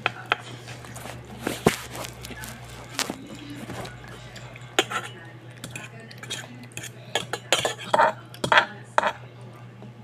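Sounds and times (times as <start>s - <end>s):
spoon scraping inside a pot: 0.3s - 9.2s.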